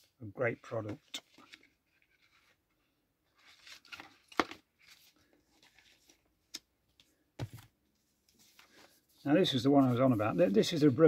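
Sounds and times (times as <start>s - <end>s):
paper sleeves rustling: 0.6s - 6.3s, 7.0s - 11.0s.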